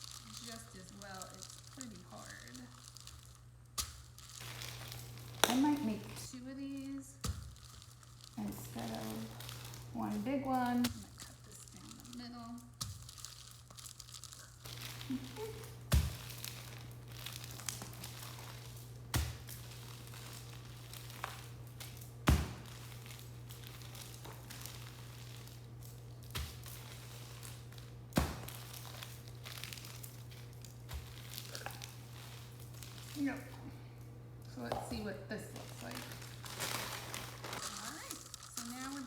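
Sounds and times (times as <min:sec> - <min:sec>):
parchment paper crinkling: 0:00.0 - 0:39.0
steady low hum: 0:00.0 - 0:39.0.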